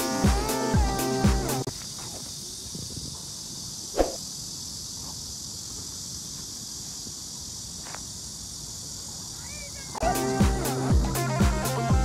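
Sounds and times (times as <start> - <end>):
high-pitched insect buzzing: 0.0 - 12.0.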